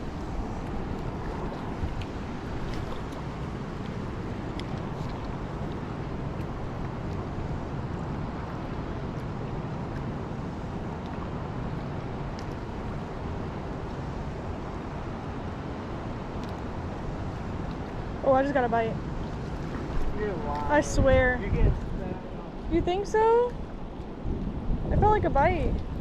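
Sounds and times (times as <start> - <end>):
creek water rushing: 0.0 - 25.0
wind buffeting microphone: 0.0 - 26.0.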